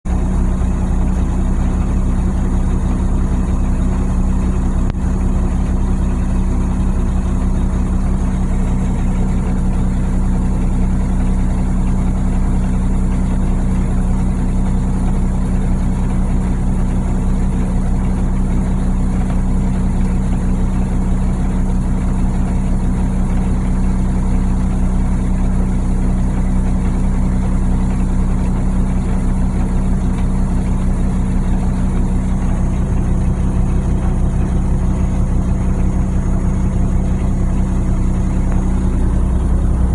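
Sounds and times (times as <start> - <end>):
diesel truck engine idling: 0.1 - 39.9.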